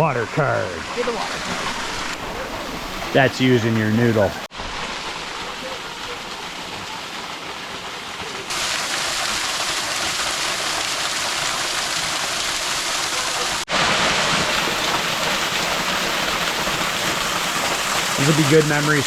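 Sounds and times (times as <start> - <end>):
waterfall pouring into pool: 0.1 - 19.0.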